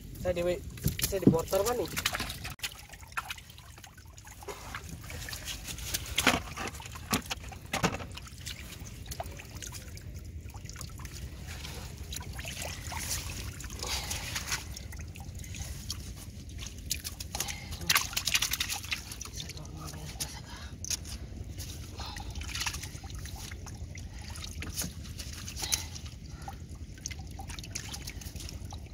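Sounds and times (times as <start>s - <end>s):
water sloshing and trickling: 0.0s - 28.9s.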